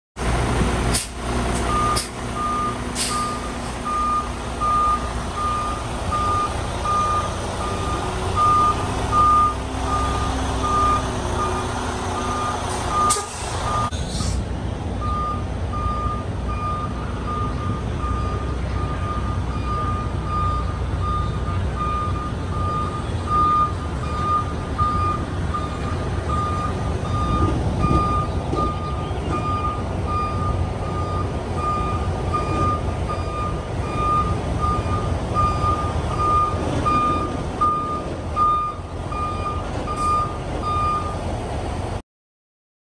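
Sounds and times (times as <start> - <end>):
low truck engine rumble: 0.2 - 42.0
truck reversing alarm beeping: 1.6 - 14.0, 15.0 - 41.3.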